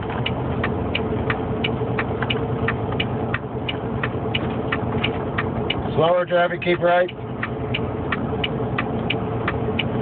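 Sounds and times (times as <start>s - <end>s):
diesel truck engine running: 0.0s - 10.0s
light regular ticking: 0.0s - 10.0s.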